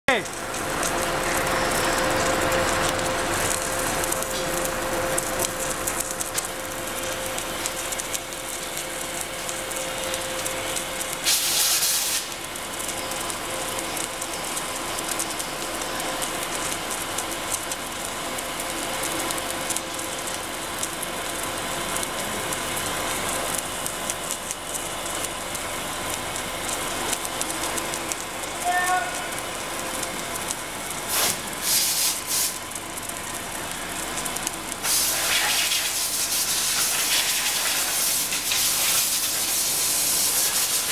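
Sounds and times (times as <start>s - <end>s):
arc welding crackling hiss: 0.1s - 40.9s
steady machine hum: 0.1s - 40.9s.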